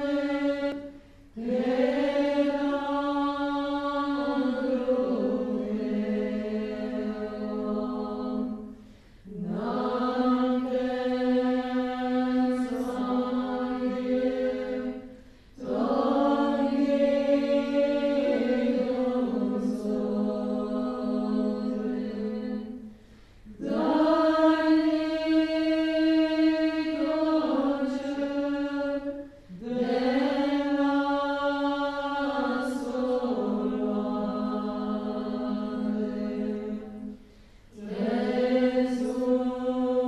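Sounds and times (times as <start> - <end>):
women singing slow chant: 0.0 - 40.0.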